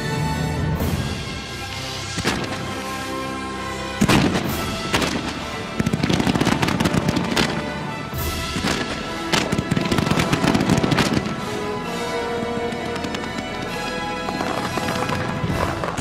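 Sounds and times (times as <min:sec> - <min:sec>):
music: 0:00.0 - 0:16.0
fireworks crackling and popping: 0:01.6 - 0:03.1, 0:04.0 - 0:16.0.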